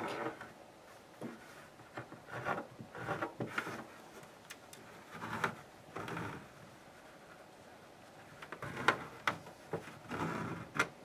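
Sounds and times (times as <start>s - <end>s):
fabric rustling: 0.0s - 10.6s
hand tool rubbing fabric: 0.0s - 10.8s.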